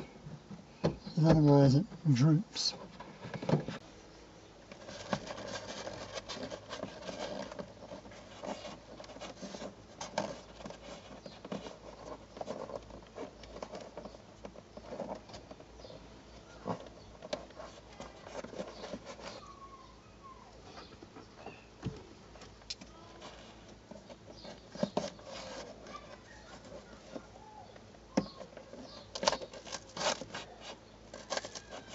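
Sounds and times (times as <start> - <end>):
cable rustling and scratching: 1.1 - 3.8, 4.6 - 19.8, 22.4 - 31.9.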